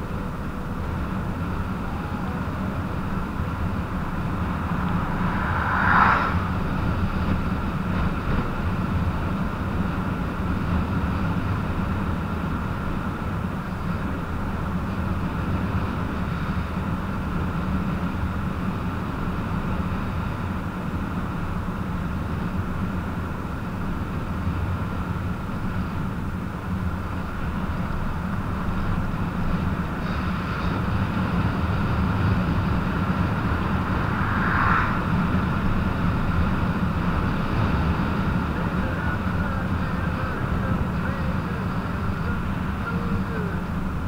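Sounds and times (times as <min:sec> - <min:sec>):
road rumble: 0:00.0 - 0:44.0
wind: 0:00.0 - 0:44.0.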